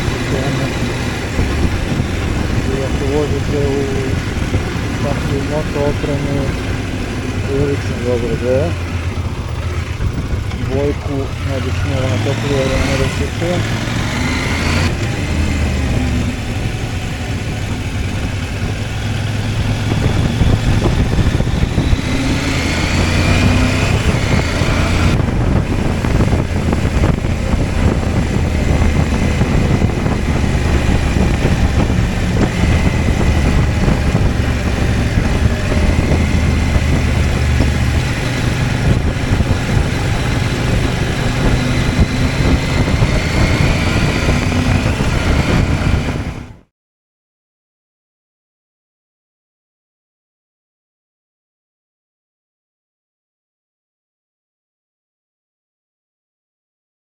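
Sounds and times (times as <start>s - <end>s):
motorcycle engine running: 0.0s - 46.6s
wind noise: 0.0s - 46.6s.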